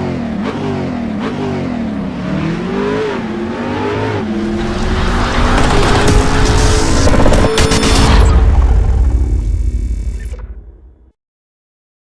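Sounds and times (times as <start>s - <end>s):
car engine accelerating: 0.0s - 9.9s.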